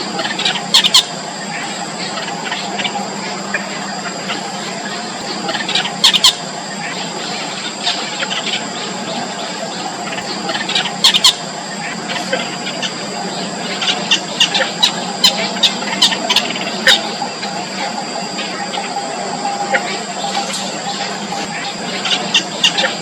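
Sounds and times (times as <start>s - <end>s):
chicks squeaky begging calls: 0.0s - 23.0s
faint high whine: 0.0s - 23.0s
steady hum: 0.0s - 23.0s.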